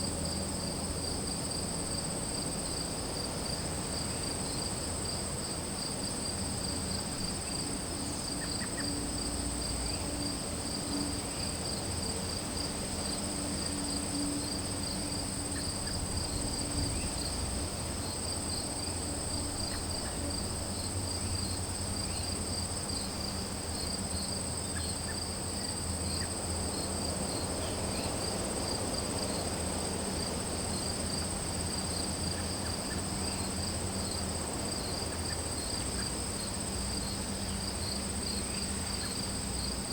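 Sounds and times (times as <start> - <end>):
high insect trill: 0.0 - 39.9
lower pulsing insect trill: 0.0 - 39.9.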